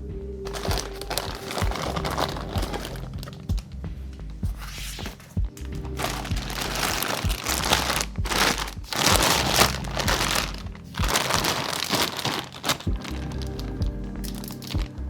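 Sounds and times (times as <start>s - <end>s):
background music: 0.0s - 15.0s
plastic packaging crinkling: 0.5s - 3.6s, 4.6s - 15.0s.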